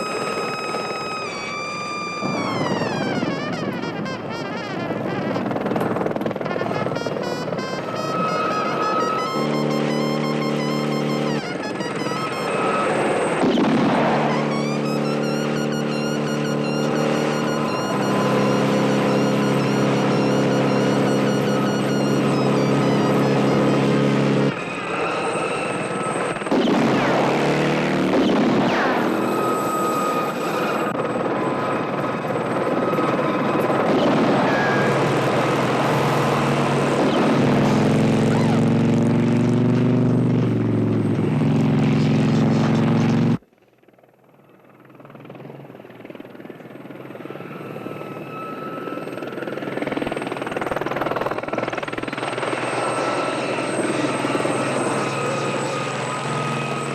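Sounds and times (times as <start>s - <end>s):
engine pitch rising and falling: 0.0s - 43.4s, 48.1s - 56.9s
helicopter engine and rotor: 0.0s - 56.9s.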